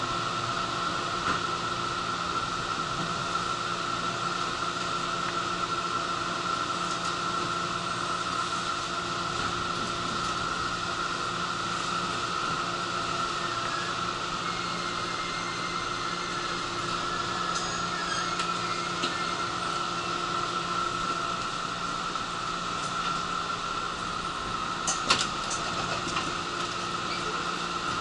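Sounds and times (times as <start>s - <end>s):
equipment and ventilation tones: 0.0s - 28.0s
train interior hum: 0.0s - 28.0s.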